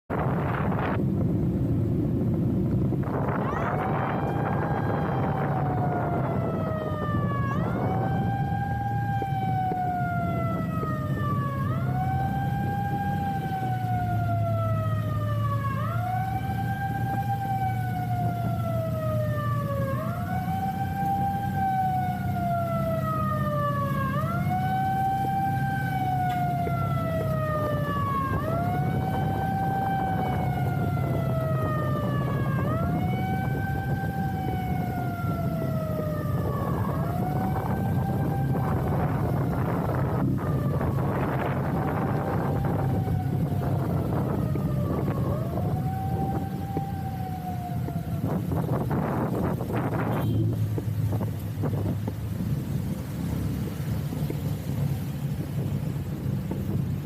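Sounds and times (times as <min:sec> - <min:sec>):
wailing siren: 0:00.1 - 0:01.5, 0:02.1 - 0:52.4
steady low rumble: 0:00.1 - 0:57.0.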